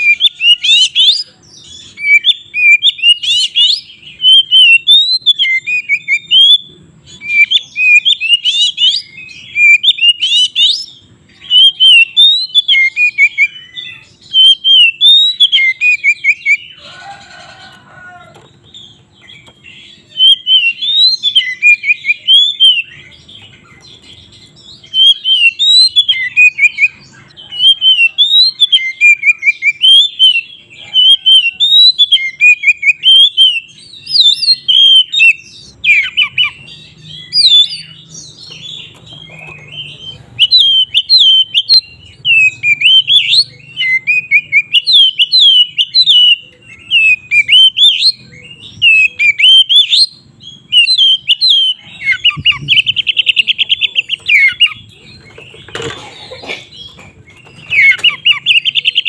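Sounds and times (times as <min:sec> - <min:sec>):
bird singing whistled phrases: 0:00.0 - 0:16.8, 0:19.9 - 0:38.1, 0:38.8 - 0:54.9, 0:57.4 - 0:59.0.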